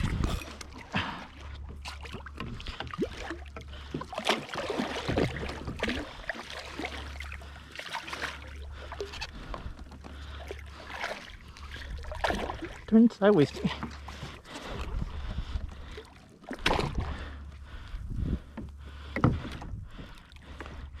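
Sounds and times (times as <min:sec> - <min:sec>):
water lapping and splashing: 0:00.0 - 0:21.0.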